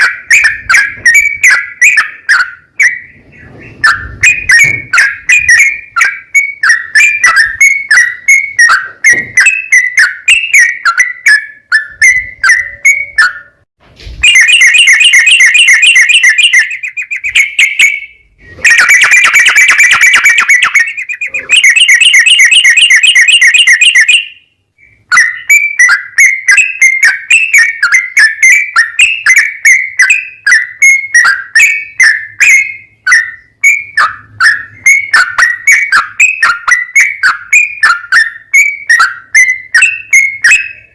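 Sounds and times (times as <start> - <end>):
bird singing chattering notes: 0.0 - 13.6, 14.2 - 40.9
fast bird trills: 0.0 - 13.6, 14.2 - 40.9.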